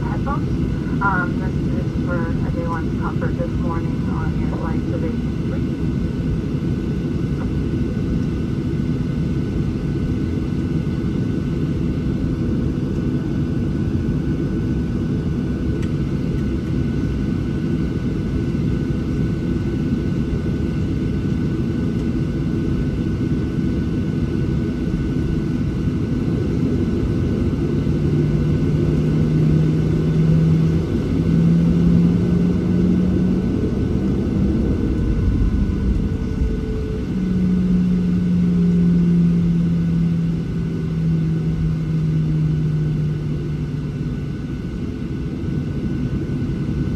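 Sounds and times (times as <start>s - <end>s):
aircraft cabin rumble: 0.0s - 46.9s.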